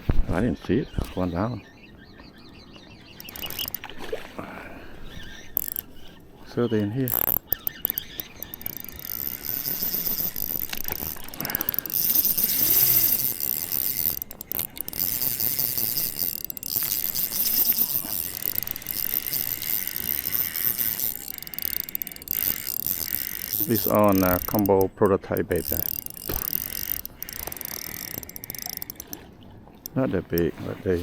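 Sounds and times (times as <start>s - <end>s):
fishing reel drag clicking: 0.8s - 31.0s.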